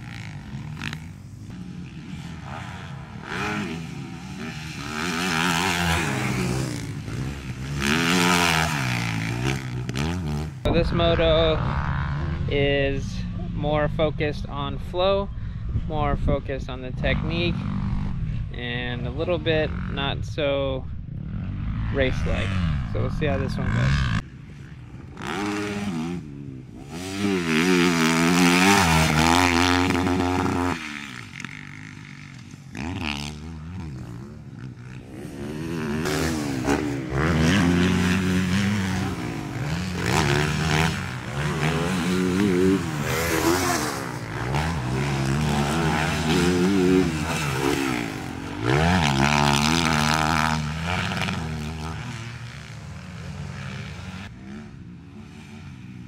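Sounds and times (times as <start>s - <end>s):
dirt bike engine revving: 0.0s - 14.7s, 16.2s - 20.3s, 21.1s - 56.0s.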